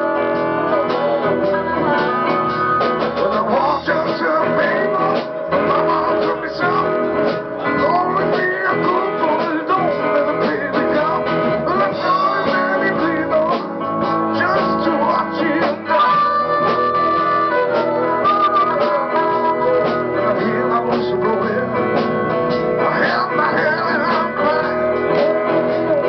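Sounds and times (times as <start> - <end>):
live blues band playing: 0.0 - 26.0.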